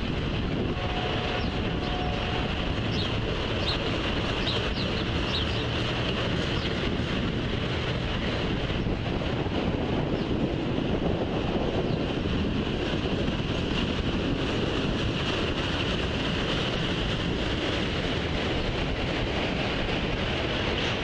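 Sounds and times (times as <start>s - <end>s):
train wheels on rail: 0.0s - 21.0s.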